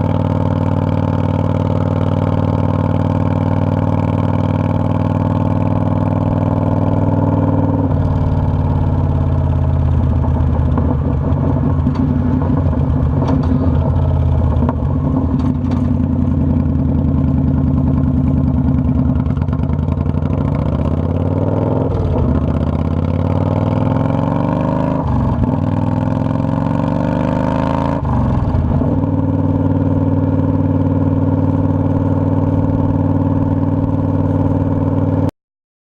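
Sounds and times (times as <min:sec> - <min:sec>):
motorcycle engine running: 0:00.0 - 0:35.3.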